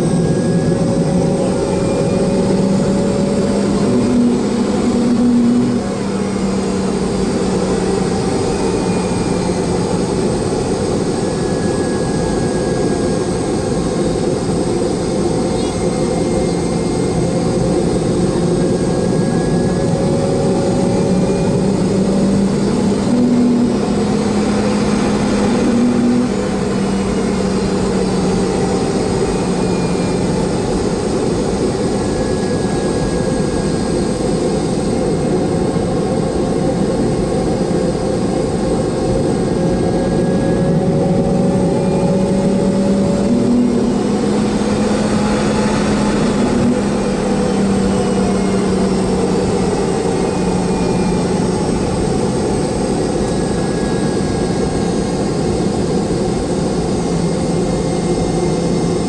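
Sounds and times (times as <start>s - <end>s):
jet engine droning: 0.0s - 59.0s.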